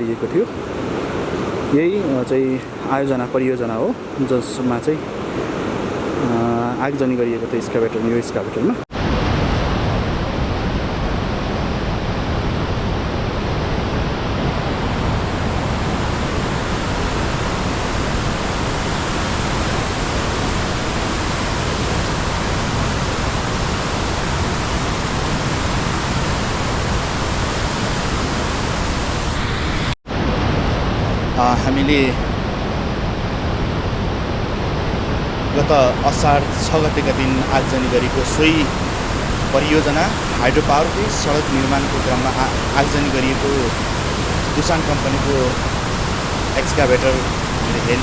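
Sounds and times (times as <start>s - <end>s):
fast-flowing river rushing: 0.0s - 48.0s.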